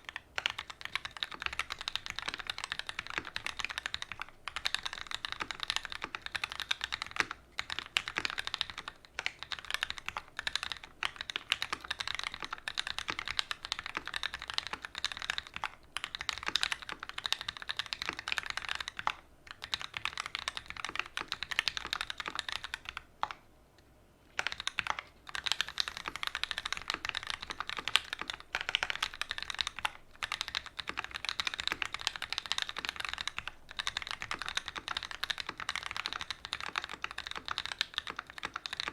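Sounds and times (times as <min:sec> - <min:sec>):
mechanical keyboard typing: 0:00.0 - 0:23.4, 0:24.4 - 0:38.9.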